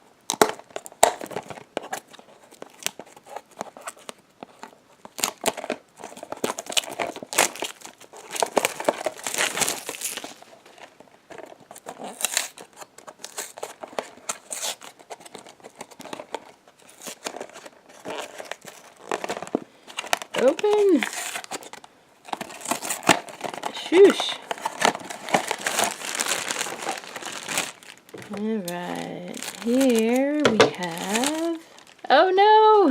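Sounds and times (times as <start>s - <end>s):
packaging crinkling and tearing: 0.3s - 32.1s.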